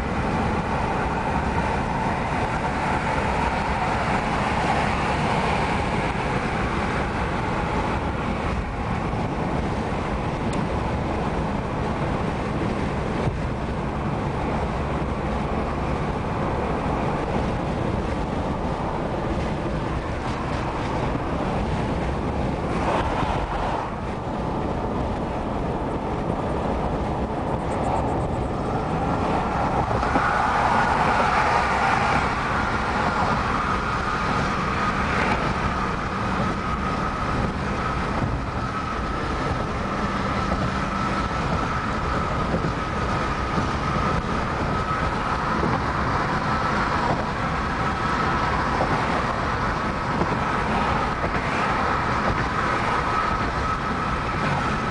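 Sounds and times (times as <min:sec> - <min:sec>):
car road noise: 0:00.0 - 0:54.9.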